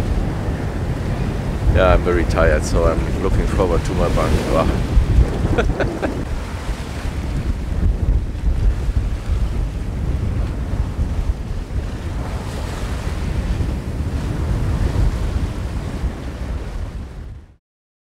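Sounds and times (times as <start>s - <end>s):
sea rushing along hull: 0.0s - 17.6s
wind rumbling on microphone: 0.0s - 17.6s.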